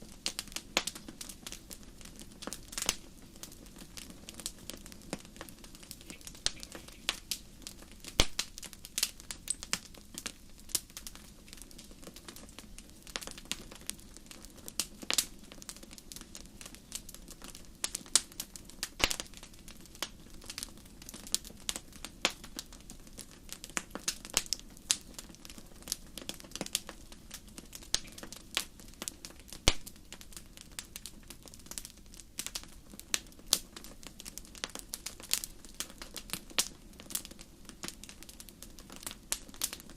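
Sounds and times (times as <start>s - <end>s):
fireplace fire crackling and popping: 0.0s - 39.9s.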